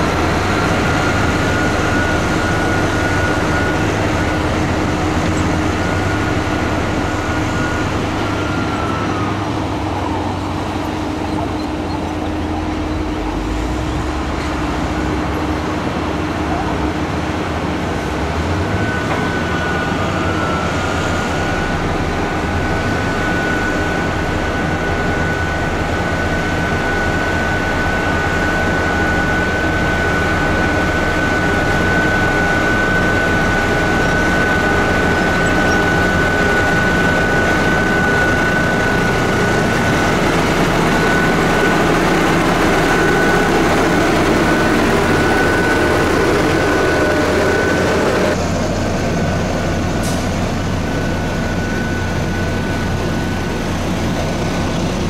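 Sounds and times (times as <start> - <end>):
heavy diesel engine: 0.0 - 55.0
road roller diesel engine: 0.0 - 55.0
steady high whine: 0.0 - 55.0.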